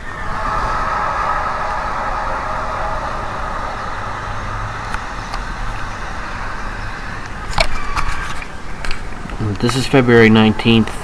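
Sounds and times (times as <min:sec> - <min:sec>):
low hum: 0:00.0 - 0:10.8
noisy rumble: 0:00.0 - 0:11.0.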